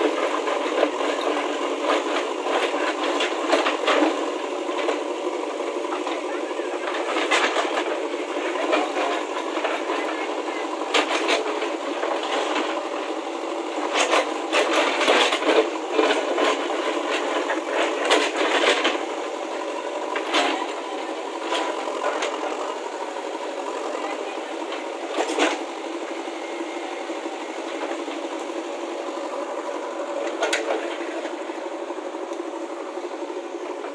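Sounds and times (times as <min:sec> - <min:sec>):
diesel engine running under load: 0:00.0 - 0:33.9.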